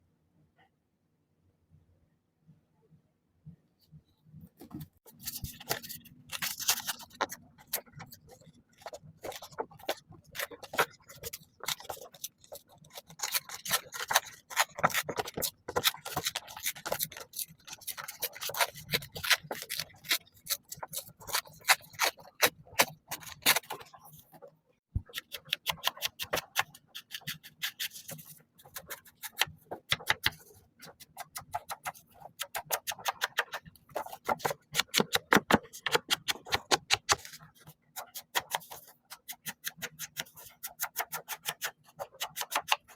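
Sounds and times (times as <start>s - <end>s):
scraping and rubbing on paper: 4.6s - 42.9s.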